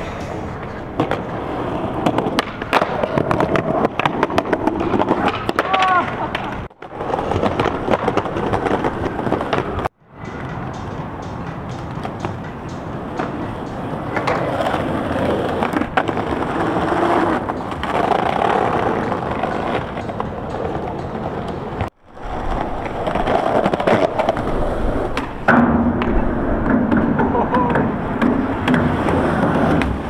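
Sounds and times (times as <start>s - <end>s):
skateboard clacks: 0.0s - 30.0s
skateboard wheels on rough pavement: 0.0s - 30.0s.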